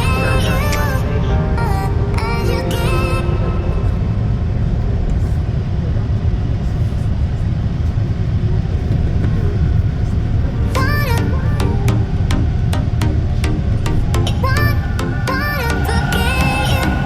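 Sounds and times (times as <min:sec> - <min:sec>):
transit vehicle rumbling: 0:00.0 - 0:17.0.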